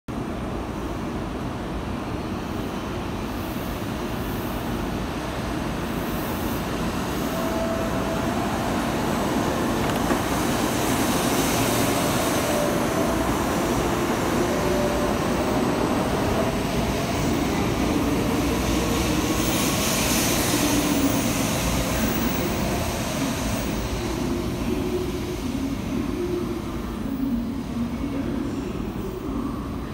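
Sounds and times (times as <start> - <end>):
train cars running noise: 0.1 - 29.9.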